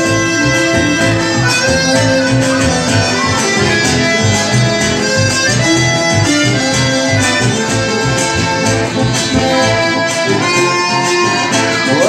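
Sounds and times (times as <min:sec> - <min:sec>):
acoustic guitar: 0:00.0 - 0:12.0
bandoneon: 0:00.0 - 0:12.0
button accordion: 0:00.0 - 0:12.0
electric bass: 0:00.0 - 0:12.0.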